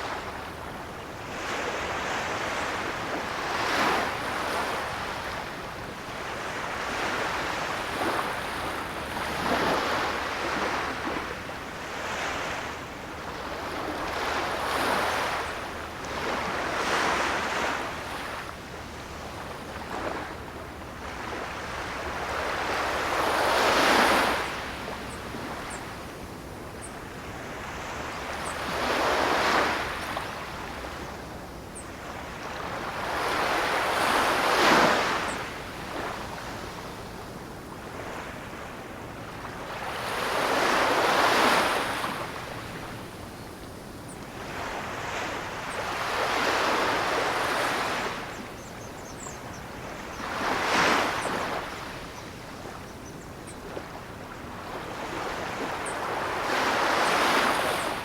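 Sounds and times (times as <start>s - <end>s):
waves breaking on shore: 6.2s - 31.4s, 32.0s - 48.5s, 49.8s - 58.0s.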